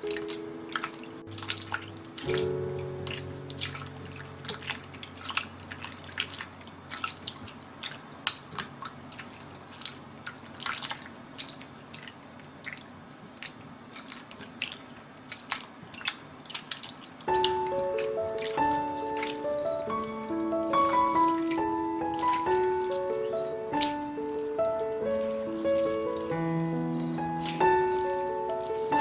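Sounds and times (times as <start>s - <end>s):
small splashes and squelches: 0.0s - 29.0s
water sloshing and dripping: 0.0s - 29.0s.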